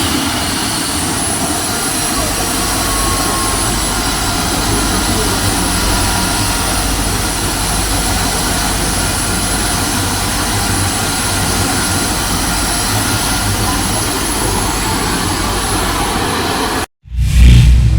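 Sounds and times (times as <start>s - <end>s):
gas turbine roaring with whine: 0.0s - 16.9s.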